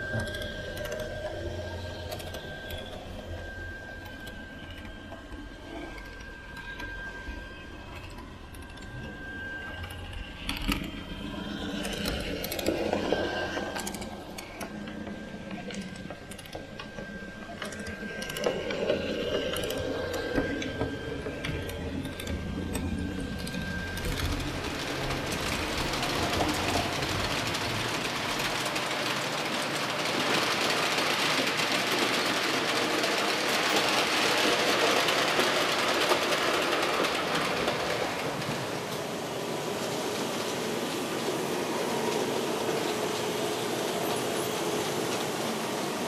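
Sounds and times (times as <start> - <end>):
model train rolling: 0.0 - 46.0
wheels clicking over track: 0.0 - 46.0.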